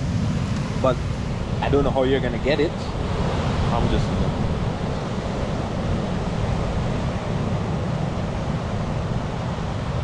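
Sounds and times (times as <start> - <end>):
surf washing: 0.0 - 10.0
wind buffeting microphone: 0.0 - 10.0.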